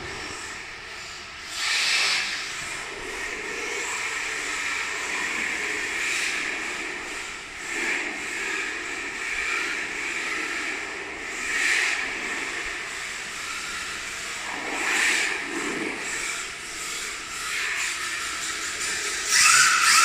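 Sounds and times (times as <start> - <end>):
rc car motor whining: 0.0 - 20.0.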